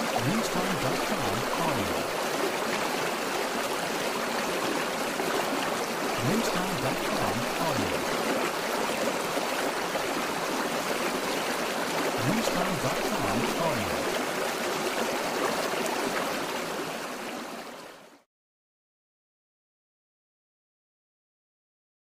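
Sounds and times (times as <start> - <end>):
running water rushing: 0.0 - 18.2.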